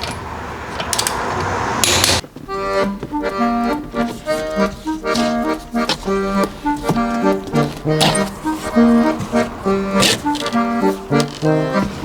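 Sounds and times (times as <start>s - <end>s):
accordion music: 2.2s - 12.0s.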